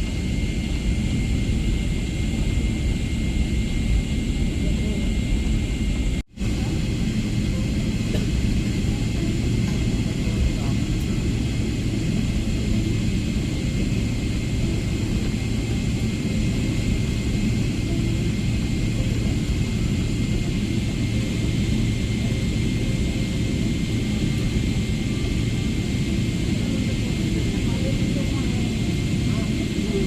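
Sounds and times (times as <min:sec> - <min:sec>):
low rumble of jet engines: 0:00.0 - 0:30.0.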